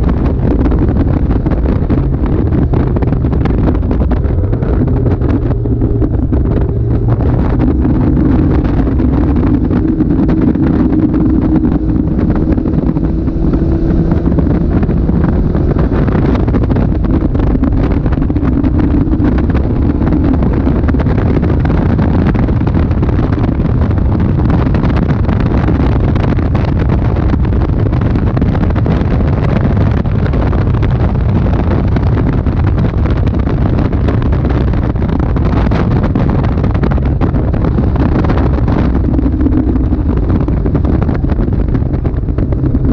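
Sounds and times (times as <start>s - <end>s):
car engine under load: 0.0s - 42.9s
wind buffeting microphone: 0.0s - 42.9s.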